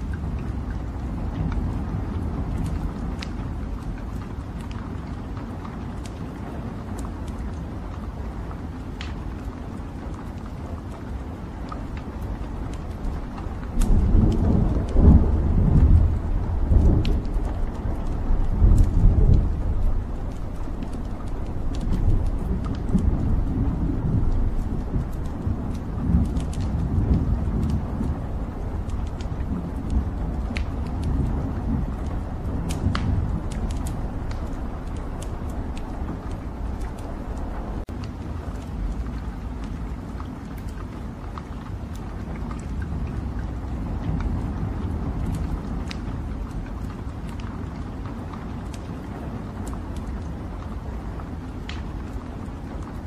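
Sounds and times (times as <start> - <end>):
logs crackling and popping: 0.0 - 53.0
roar of flames: 0.0 - 53.0.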